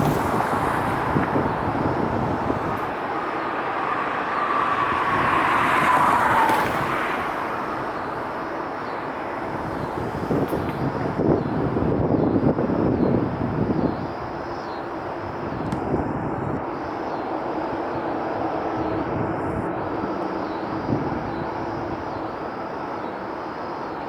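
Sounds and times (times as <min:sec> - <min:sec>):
jet engines passing by: 0:00.0 - 0:24.0.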